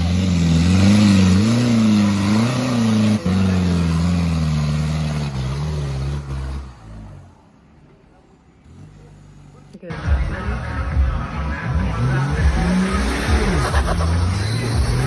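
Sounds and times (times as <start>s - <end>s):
engine revving under load: 0.0s - 7.6s, 8.5s - 15.0s.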